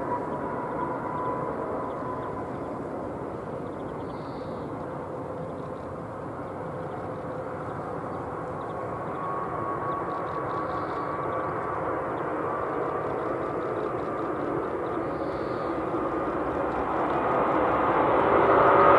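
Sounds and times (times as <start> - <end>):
jet engines rushing with whine: 0.0 - 18.9.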